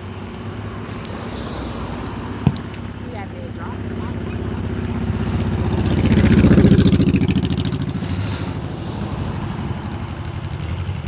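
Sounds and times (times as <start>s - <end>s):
vehicle engine driving past: 0.0s - 11.0s.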